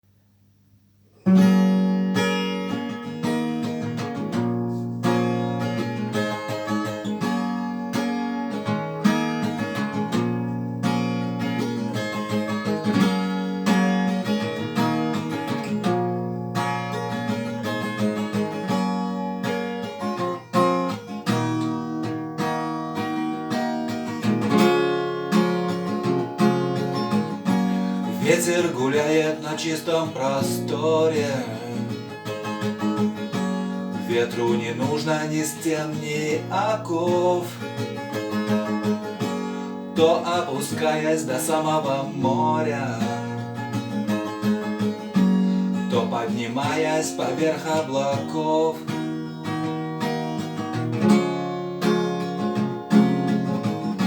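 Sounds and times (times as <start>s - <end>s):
acoustic guitar playing: 1.1s - 54.0s.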